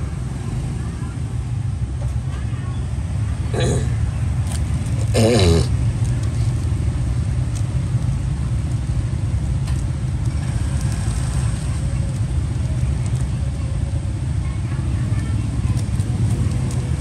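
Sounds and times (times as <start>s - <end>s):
low rumble of road traffic: 0.0s - 17.0s.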